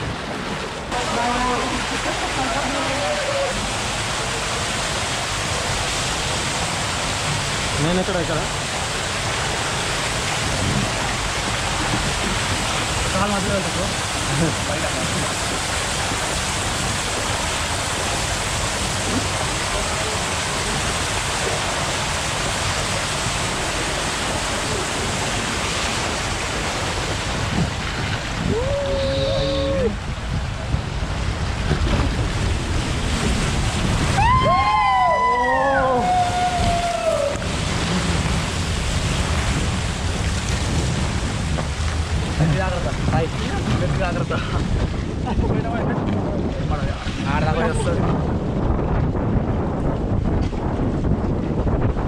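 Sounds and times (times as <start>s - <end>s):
water rushing down a slide: 0.0s - 52.0s.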